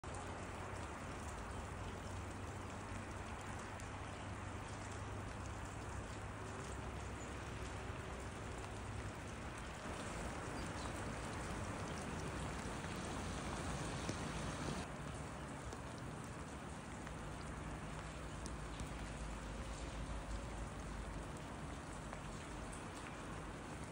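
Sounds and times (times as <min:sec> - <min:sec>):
rain falling: 0:00.0 - 0:23.9
water dripping off roof: 0:00.0 - 0:23.9.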